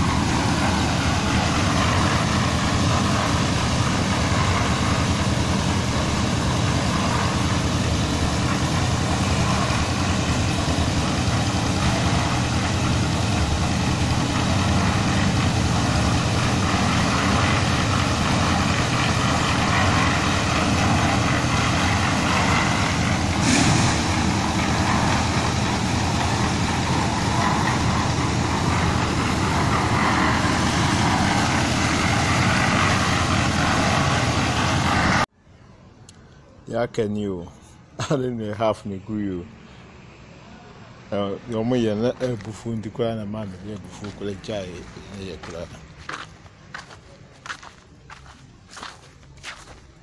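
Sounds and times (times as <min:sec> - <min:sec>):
concrete mixer engine running: 0:00.0 - 0:35.3, 0:41.2 - 0:50.0.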